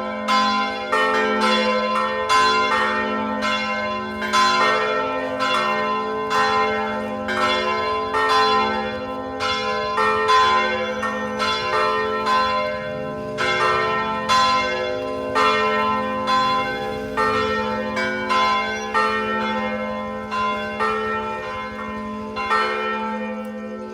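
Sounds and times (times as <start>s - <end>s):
church bells pealing: 0.0s - 23.9s.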